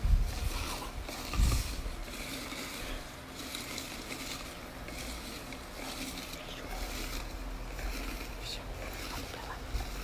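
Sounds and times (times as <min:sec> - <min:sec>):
paper coupons rustling: 0:00.3 - 0:10.0.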